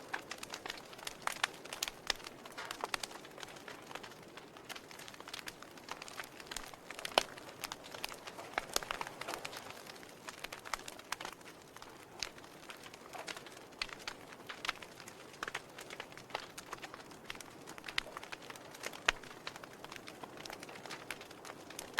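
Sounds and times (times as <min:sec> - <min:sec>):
fire crackling and popping: 0:00.0 - 0:21.9.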